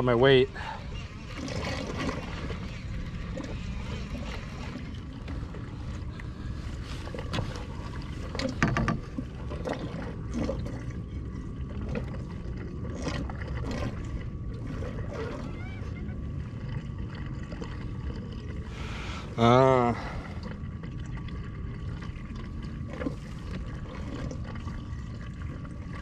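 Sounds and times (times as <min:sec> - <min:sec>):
water lapping against kayak hull: 0:00.0 - 0:26.0.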